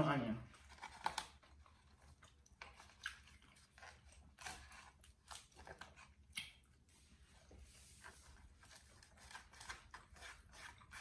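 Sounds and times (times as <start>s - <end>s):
chewing: 0.6s - 11.0s.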